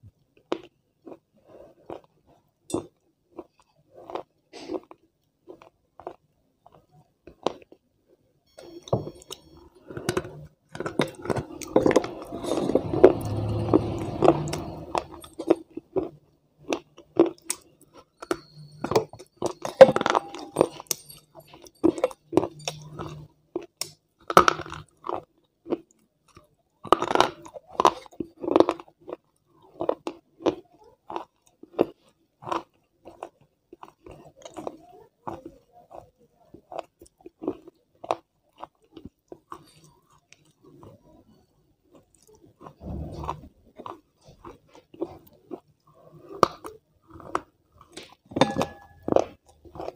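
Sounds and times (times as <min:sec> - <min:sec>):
person crunching and chewing: 0:00.4 - 0:07.8, 0:08.6 - 0:49.9.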